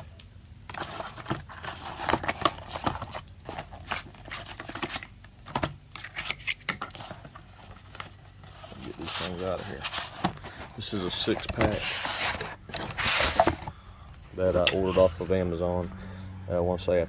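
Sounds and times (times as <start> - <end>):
packaging rustling and crinkling: 0.0 - 14.7.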